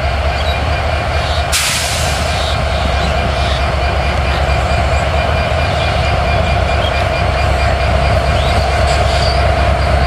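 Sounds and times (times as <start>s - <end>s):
diesel locomotive rumble: 0.0s - 10.0s.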